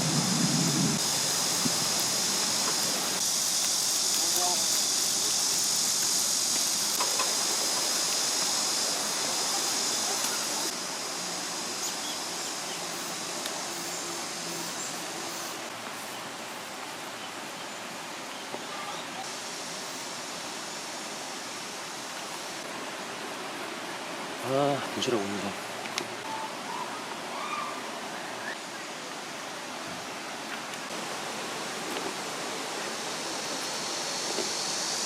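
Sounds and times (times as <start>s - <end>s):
stream water rushing over rocks: 0.0s - 35.0s.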